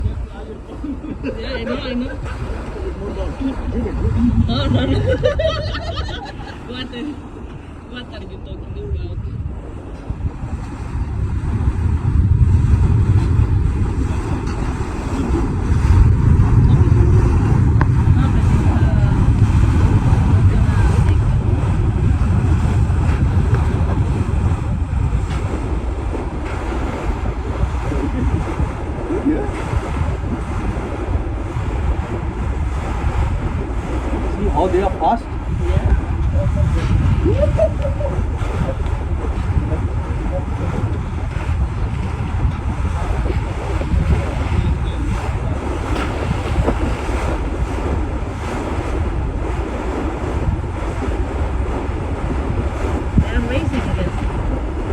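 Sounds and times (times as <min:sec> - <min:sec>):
rushing water: 0:00.0 - 0:54.9
wind buffeting microphone: 0:00.0 - 0:54.9.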